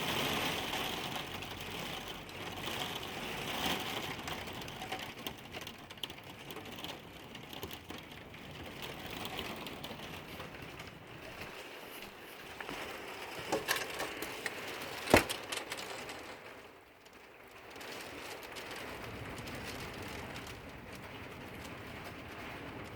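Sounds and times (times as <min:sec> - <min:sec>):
heavy rain on hard surface: 0:00.0 - 0:22.9.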